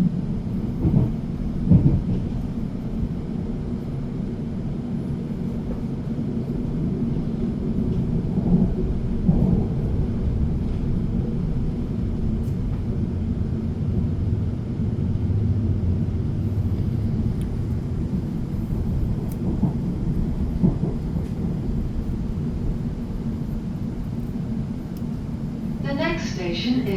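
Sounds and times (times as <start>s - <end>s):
electric train rumbling: 0.0s - 26.9s.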